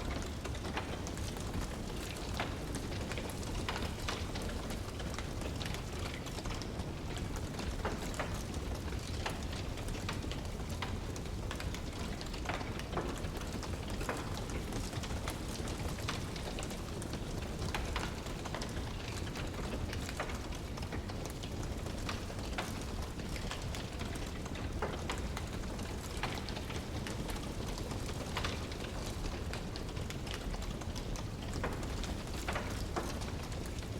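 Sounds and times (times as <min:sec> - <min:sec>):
fire crackling and popping: 0:00.0 - 0:33.9
fire flames rumbling: 0:00.0 - 0:33.9.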